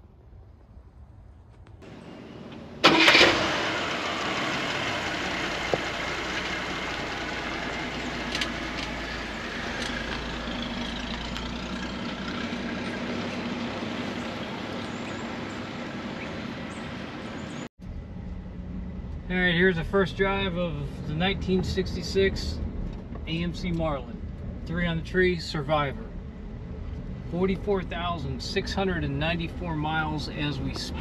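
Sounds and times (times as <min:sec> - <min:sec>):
car engine starting and running: 0:01.7 - 0:31.0.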